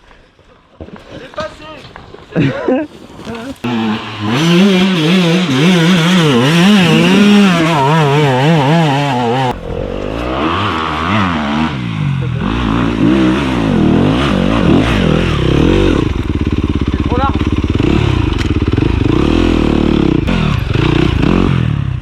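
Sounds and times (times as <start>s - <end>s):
dirt bike engine revving: 3.6s - 22.0s.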